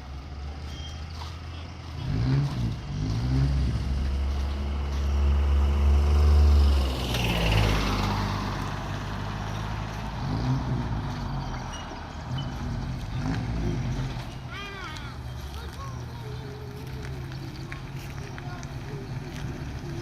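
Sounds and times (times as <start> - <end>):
truck engine pulling under load: 0.0 - 20.0.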